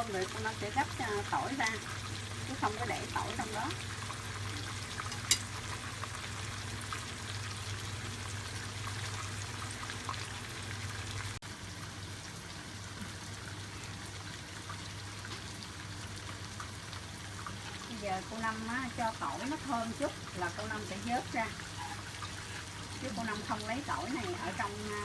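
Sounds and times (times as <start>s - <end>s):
garlic sizzling in oil: 0.0s - 25.0s.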